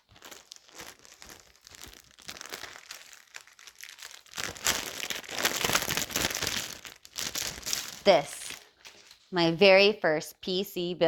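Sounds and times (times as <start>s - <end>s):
crinkling and rustling: 0.0s - 9.5s.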